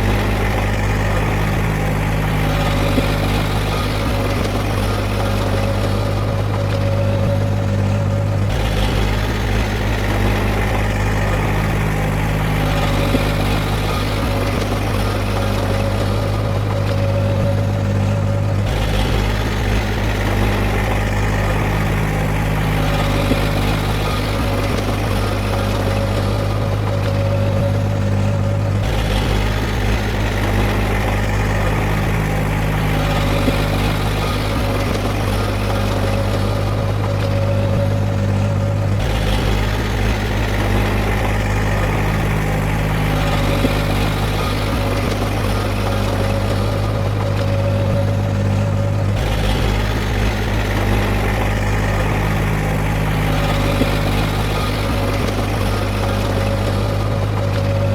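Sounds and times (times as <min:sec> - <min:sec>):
heavy diesel engine humming: 0:00.0 - 0:57.9.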